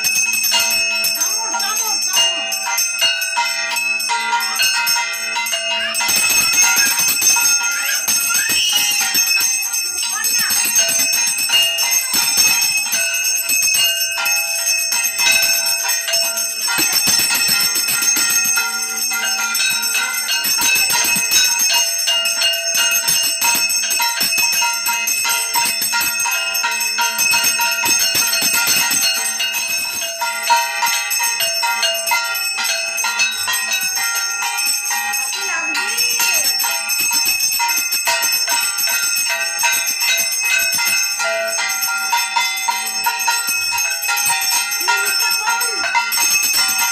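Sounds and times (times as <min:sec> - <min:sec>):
hand bell ringing rapidly: 0:00.0 - 0:46.9.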